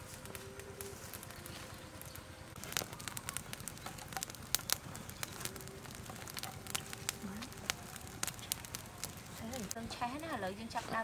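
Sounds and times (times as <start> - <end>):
sharp fire pops: 0.0 - 10.8
fire of sticks crackling: 0.0 - 11.0.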